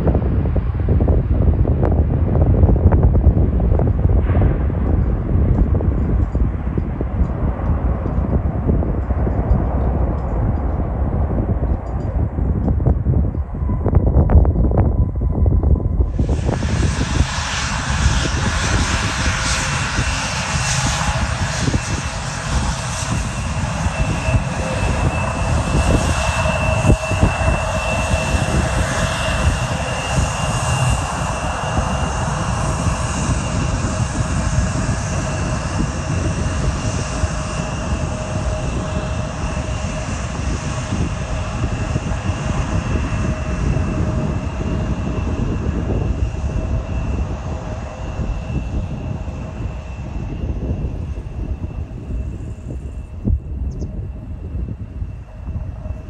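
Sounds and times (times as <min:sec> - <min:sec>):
airliner engines running: 0:00.0 - 0:56.0.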